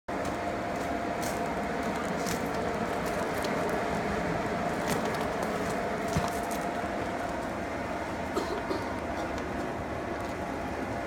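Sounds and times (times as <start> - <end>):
electric blower fan humming: 0.1 - 11.0.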